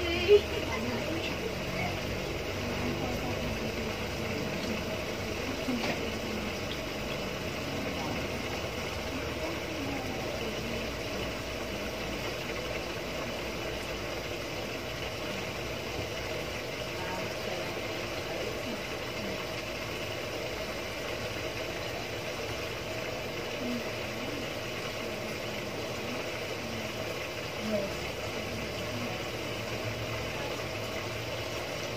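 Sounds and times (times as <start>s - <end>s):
washing machine running: 0.0s - 31.9s.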